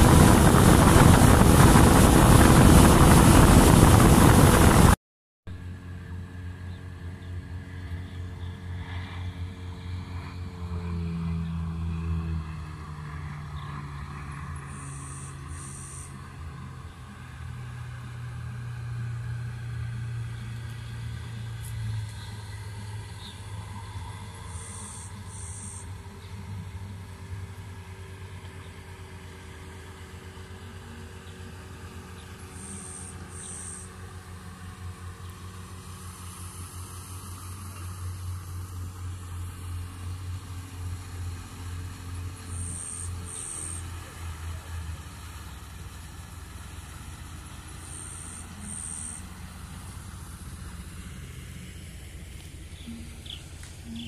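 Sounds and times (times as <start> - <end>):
outboard motor droning: 0.0 - 54.0.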